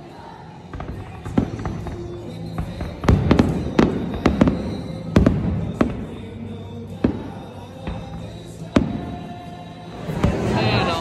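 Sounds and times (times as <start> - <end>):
fireworks bursting with sharp bangs: 0.7 - 11.0.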